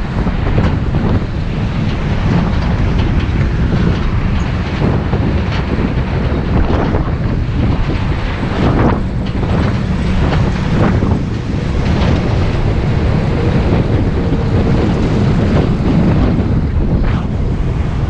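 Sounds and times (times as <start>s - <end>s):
bus engine and road rumble: 0.0s - 18.0s
wind buffeting microphone: 0.0s - 18.0s.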